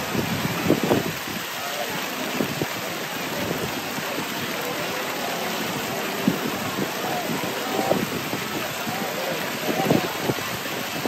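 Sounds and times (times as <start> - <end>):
faint voices of passers-by: 1.4 - 11.0.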